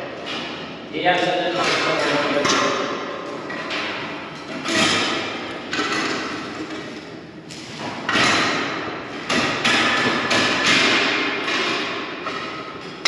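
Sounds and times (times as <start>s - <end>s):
ringing metal bangs and clatter: 0.0s - 7.2s, 7.8s - 13.0s.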